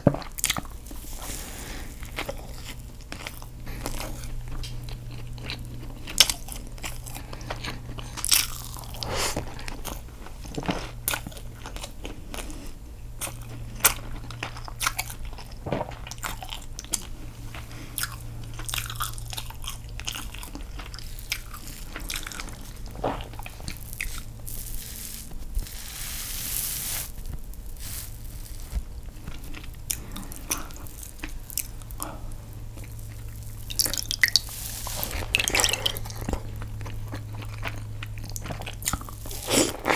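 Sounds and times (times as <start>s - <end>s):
wet chewing: 0.1s - 25.8s, 27.1s - 39.9s.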